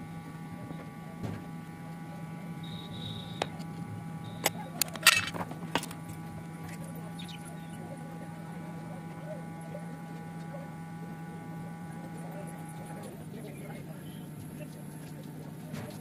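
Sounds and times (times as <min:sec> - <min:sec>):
electrical hum: 0:00.0 - 0:16.0
faint whining tones: 0:00.0 - 0:16.0.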